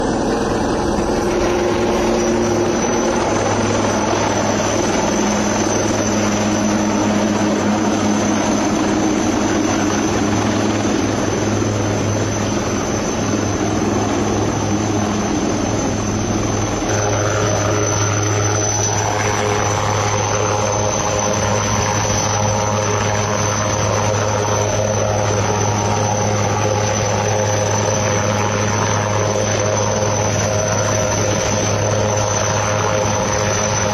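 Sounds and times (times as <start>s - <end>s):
helicopter engine and rotor drone: 0.0s - 33.9s.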